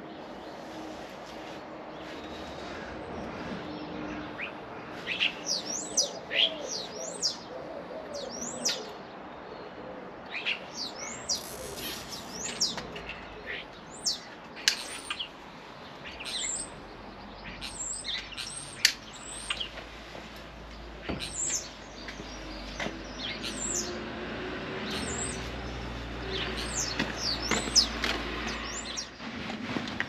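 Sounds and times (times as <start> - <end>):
small birds chirping: 1.9 - 19.9, 20.7 - 24.2, 24.8 - 29.4.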